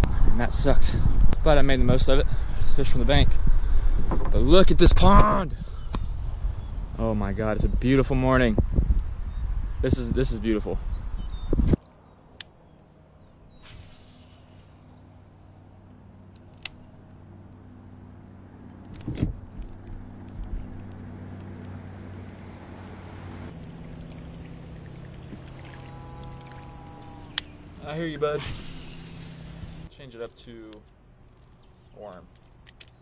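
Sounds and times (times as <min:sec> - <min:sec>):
insect drone: 0:00.0 - 0:33.0
low hum: 0:00.0 - 0:33.0.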